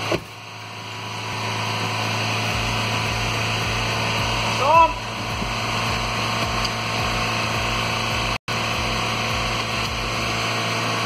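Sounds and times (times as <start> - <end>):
mechanical running noise with hum: 0.0 - 11.0.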